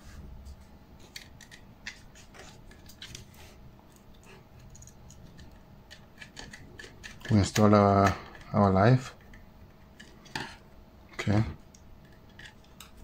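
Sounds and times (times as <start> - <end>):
small clicks and scrapes: 0.5 - 8.6, 9.2 - 10.6, 11.6 - 13.0.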